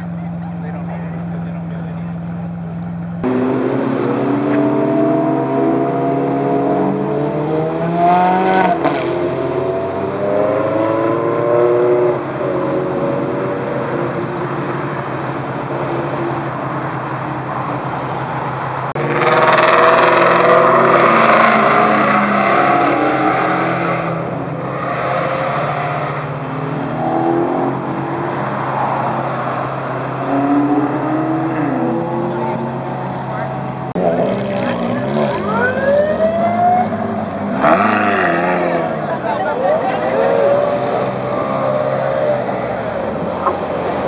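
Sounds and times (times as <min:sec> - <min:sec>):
sports cars accelerating: 0:00.0 - 0:44.0.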